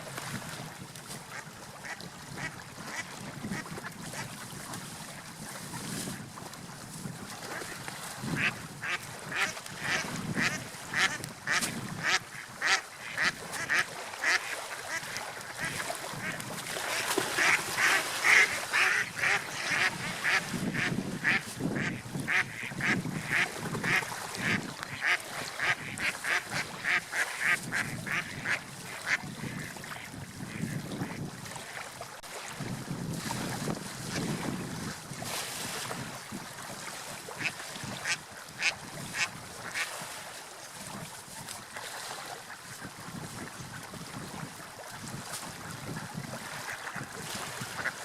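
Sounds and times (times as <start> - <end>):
wind and waves: 0.0 - 48.0.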